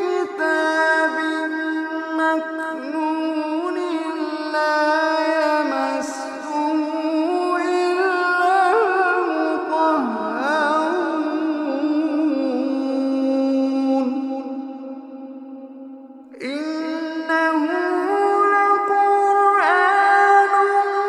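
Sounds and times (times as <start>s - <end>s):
person reciting melodically: 0.0s - 21.0s.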